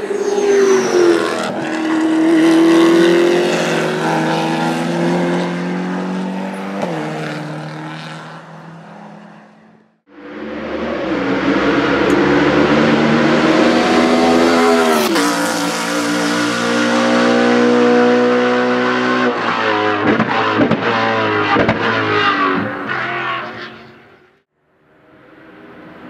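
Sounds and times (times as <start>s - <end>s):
race car engine at high revs: 0.0s - 24.2s.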